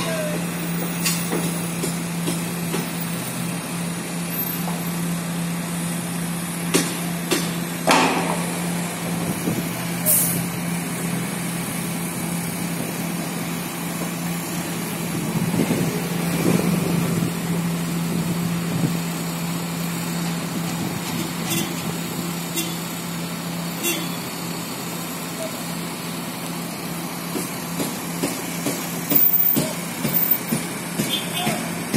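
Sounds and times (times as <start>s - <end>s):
heavy machinery engine hum: 0.0s - 31.9s.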